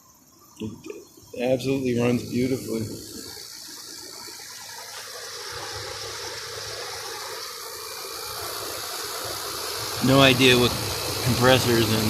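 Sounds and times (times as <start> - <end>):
thin high steady tone: 0.0 - 12.0
air conditioner fan rushing: 0.6 - 12.0.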